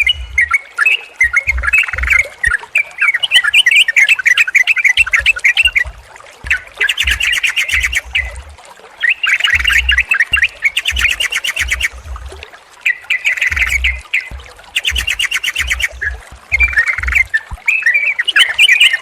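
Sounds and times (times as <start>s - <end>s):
bulbuls chattering: 0.0s - 19.0s.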